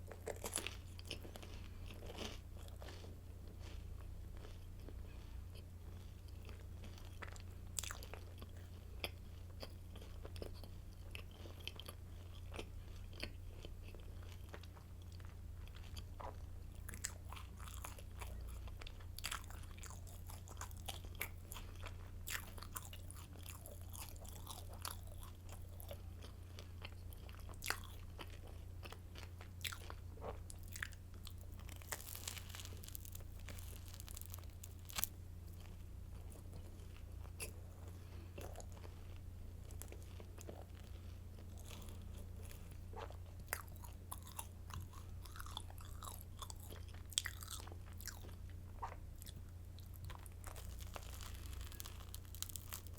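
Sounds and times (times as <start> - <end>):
baguette crunching while chewed: 0.0 - 52.9
steady low hum: 0.0 - 52.9.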